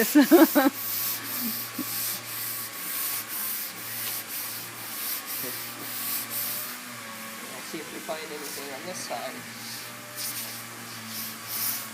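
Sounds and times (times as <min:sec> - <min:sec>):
sandpaper rasping on car panel: 0:00.0 - 0:07.0, 0:07.6 - 0:11.9.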